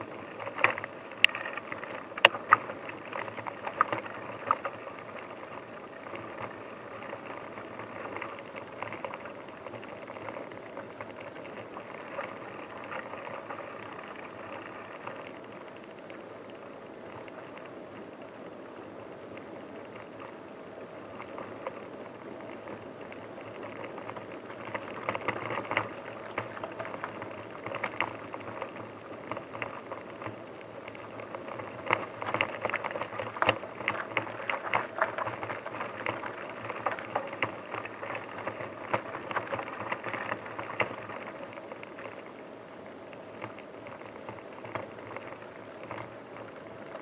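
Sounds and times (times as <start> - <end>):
bicycle crackling and rattling: 0.0 - 47.0.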